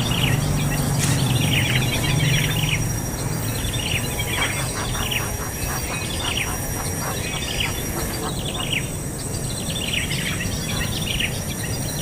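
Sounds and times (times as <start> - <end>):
bird chirping: 0.0 - 12.0
steady background noise: 0.0 - 12.0.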